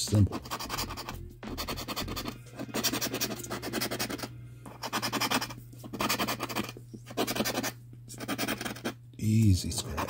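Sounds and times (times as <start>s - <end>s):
coin scratching a ticket: 0.0s - 9.0s, 9.7s - 10.0s
faint low hum: 0.0s - 10.0s.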